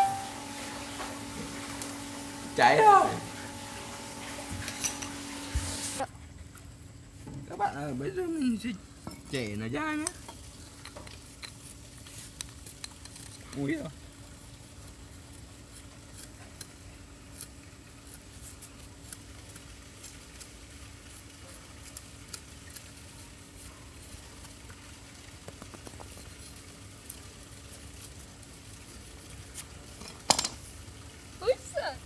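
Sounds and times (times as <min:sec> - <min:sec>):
knife scraping charred bamboo: 0:00.0 - 0:06.0, 0:09.3 - 0:24.6, 0:25.8 - 0:30.8.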